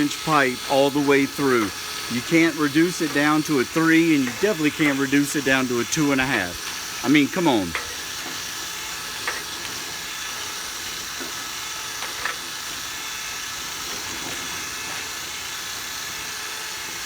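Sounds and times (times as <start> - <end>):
airy hiss of running machine: 0.0 - 17.0.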